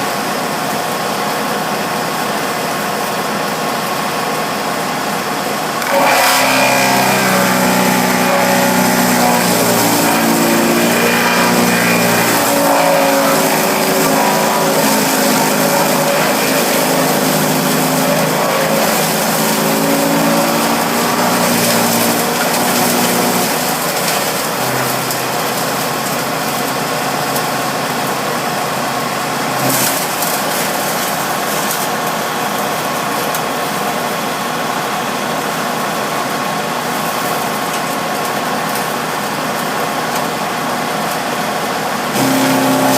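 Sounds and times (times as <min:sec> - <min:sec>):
wood chipper engine running: 0:00.0 - 0:42.9.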